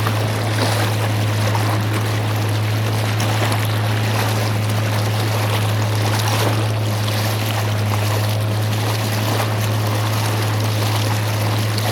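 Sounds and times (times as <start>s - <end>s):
boat motor humming: 0.0s - 11.9s
water splashing along hull: 0.0s - 11.9s.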